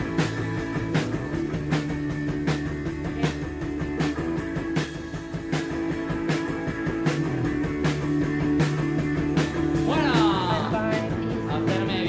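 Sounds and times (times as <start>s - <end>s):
guitar song with drum beat: 0.0s - 12.0s.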